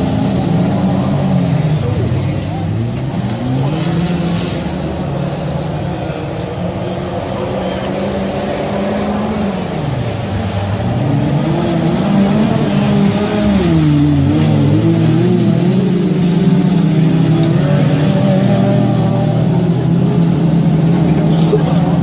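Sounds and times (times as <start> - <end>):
racing car engines accelerating: 0.0 - 22.0.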